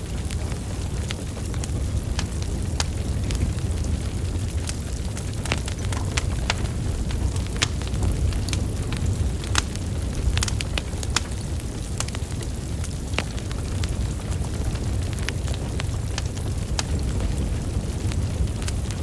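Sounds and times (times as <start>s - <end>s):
burning logs crackling and popping: 0.0s - 19.0s
low rumble of flames: 0.0s - 19.0s.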